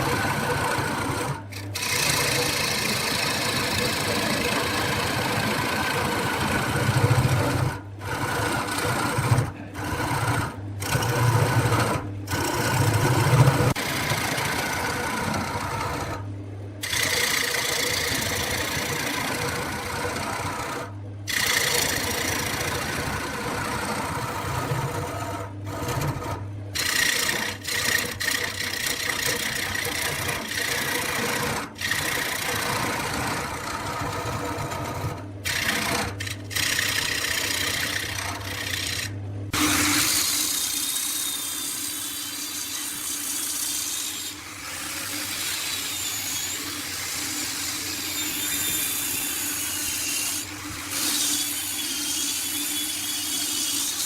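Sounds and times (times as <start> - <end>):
lathe motor hum: 0.0 - 54.0
tool cutting spinning wood: 0.0 - 54.0.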